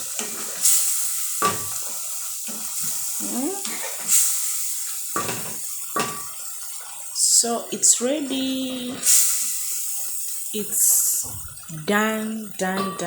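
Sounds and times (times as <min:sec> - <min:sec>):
stew sizzling in a pan: 0:00.0 - 0:13.0.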